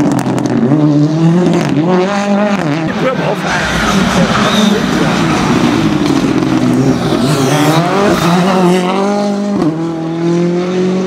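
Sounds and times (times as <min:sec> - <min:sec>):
rally car engine accelerating hard: 0:00.0 - 0:11.0.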